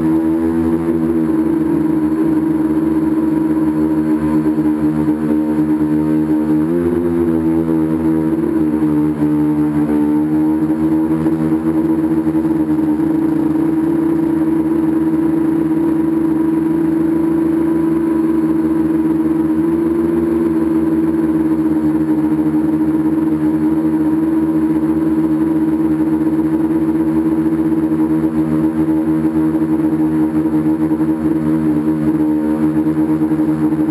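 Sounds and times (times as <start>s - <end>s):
drone propellers buzzing: 0.0s - 33.9s.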